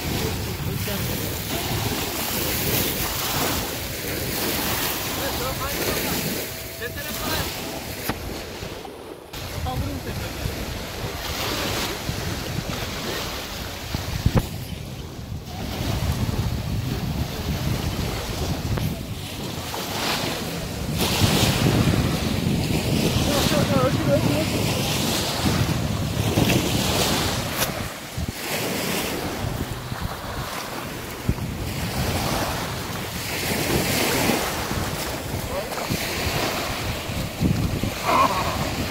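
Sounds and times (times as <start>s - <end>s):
lake waves washing: 0.0s - 38.9s
wind buffeting microphone: 0.0s - 38.9s.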